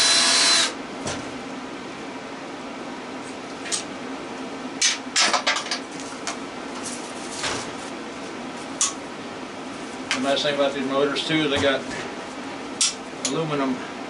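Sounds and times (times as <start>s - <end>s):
heater humming: 0.0s - 14.0s.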